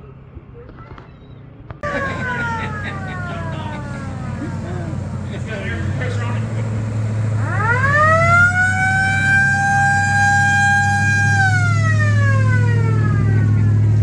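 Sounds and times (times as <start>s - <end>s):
mechanical siren wailing: 1.8s - 14.0s.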